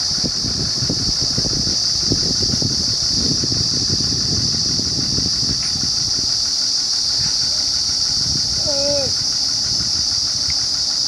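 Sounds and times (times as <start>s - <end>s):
drilling rig engine rumble: 0.0s - 11.0s
high-pitched hiss: 0.0s - 11.0s.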